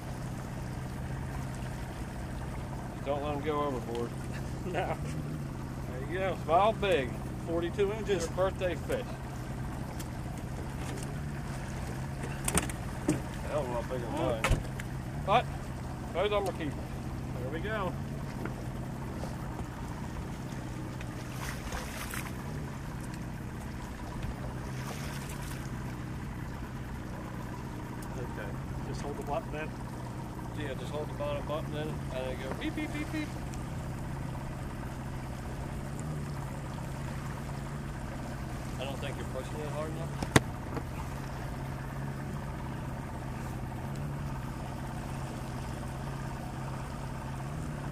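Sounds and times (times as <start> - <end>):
outboard motor humming: 0.0 - 47.9.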